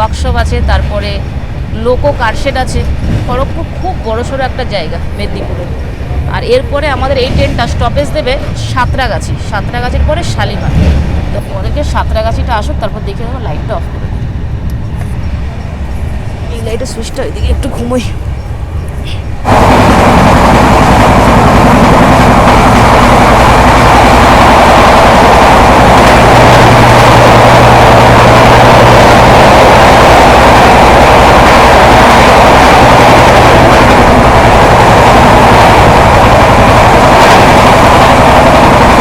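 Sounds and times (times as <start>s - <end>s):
train wheels rumbling: 0.0s - 39.0s.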